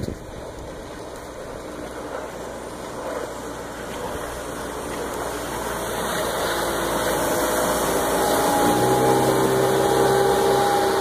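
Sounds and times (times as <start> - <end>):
speedboat outboard motor: 0.0 - 11.0.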